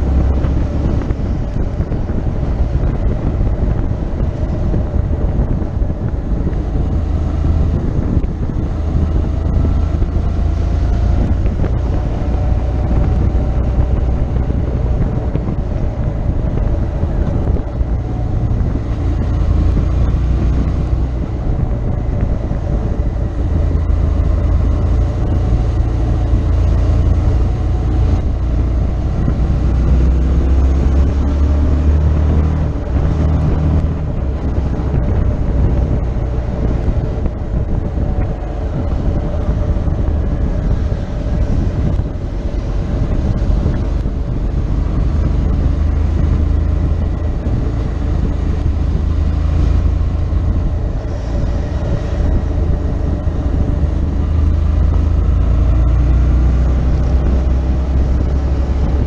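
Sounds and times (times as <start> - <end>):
motorcycle engine running: 0.0 - 59.0
wind buffeting microphone: 0.0 - 59.0.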